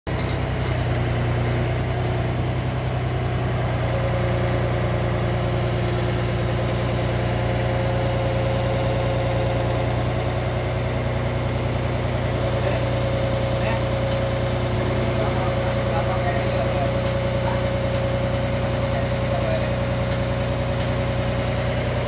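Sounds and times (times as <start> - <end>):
diesel engine running steadily: 0.1 - 22.0.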